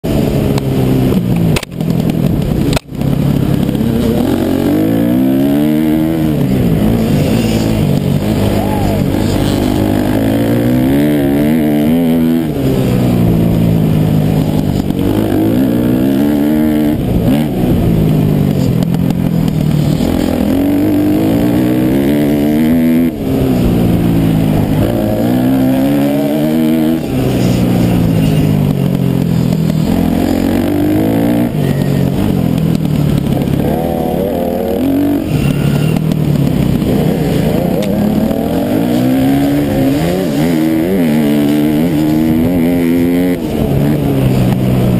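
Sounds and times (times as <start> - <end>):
dirt bike engine revving: 0.1 - 44.9.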